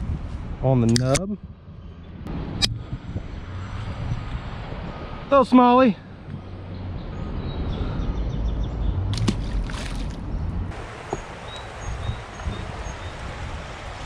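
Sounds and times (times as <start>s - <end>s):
wind on microphone: 0.0s - 5.3s, 6.1s - 14.0s
river water rumble: 2.3s - 14.0s.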